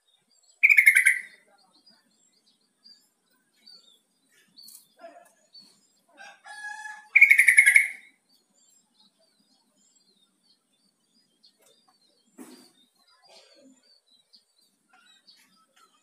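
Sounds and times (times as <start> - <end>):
bird chattering song: 0.0 - 16.0
soft bird chirps: 0.0 - 16.0.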